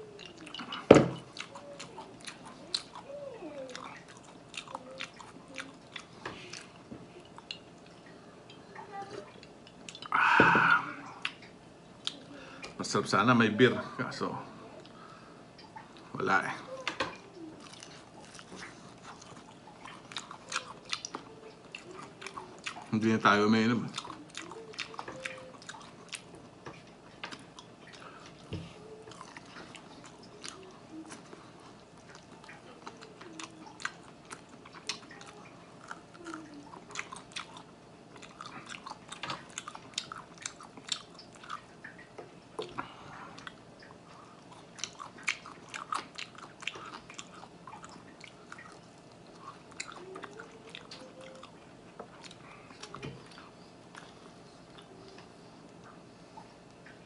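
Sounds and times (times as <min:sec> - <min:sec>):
chewing with wet mouth clicks: 0:00.0 - 0:10.1, 0:11.1 - 0:12.8, 0:17.2 - 0:23.0, 0:23.9 - 0:57.0.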